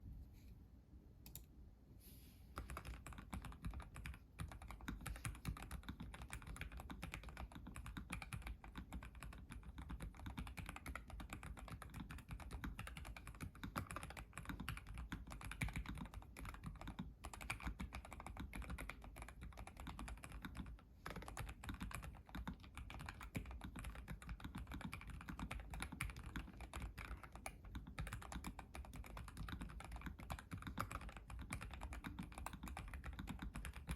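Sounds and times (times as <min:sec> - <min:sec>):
mechanical keyboard typing: 0:02.6 - 0:33.9.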